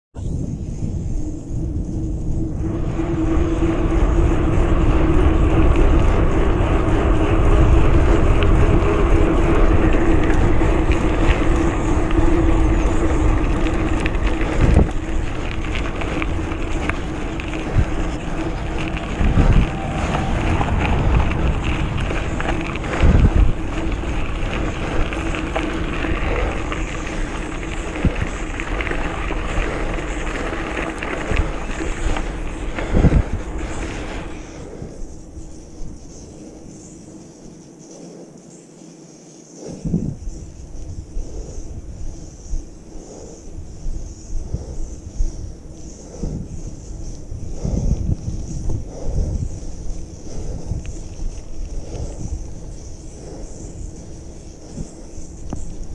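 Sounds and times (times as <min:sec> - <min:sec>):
wind buffeting microphone: 0:00.1 - 0:38.7, 0:39.5 - 0:55.9
bike rolling on trail: 0:00.3 - 0:55.9.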